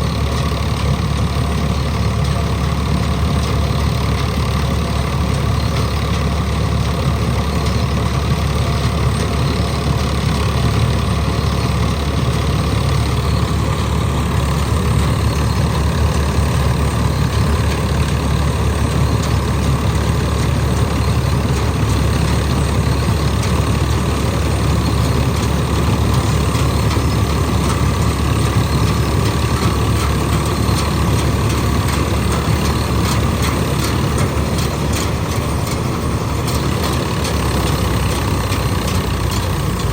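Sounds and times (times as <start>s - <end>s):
combine harvester diesel engine droning: 0.0s - 39.9s.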